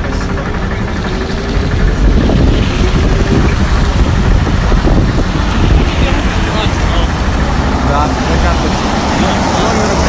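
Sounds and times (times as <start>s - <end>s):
road noise: 0.0s - 10.0s
trolleybus rumble: 0.0s - 10.0s
wind buffeting microphone: 0.0s - 10.0s.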